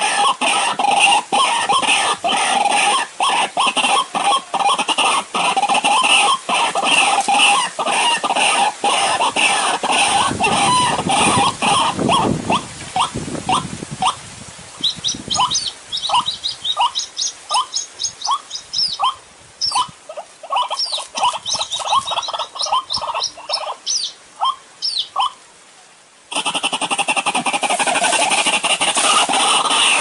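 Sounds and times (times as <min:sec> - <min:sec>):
waterhen calling repeated notes: 0:00.0 - 0:25.6, 0:26.3 - 0:30.0.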